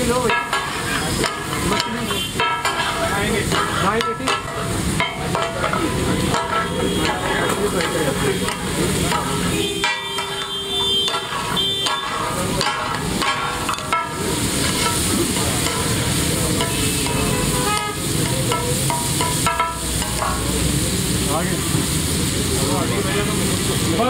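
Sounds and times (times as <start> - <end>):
metal spatulas knocking and scraping: 0.0 - 20.6
meat sizzling on a griddle: 0.0 - 24.0
street traffic: 0.0 - 24.0
car horns tooting: 0.3 - 4.3, 5.0 - 20.4.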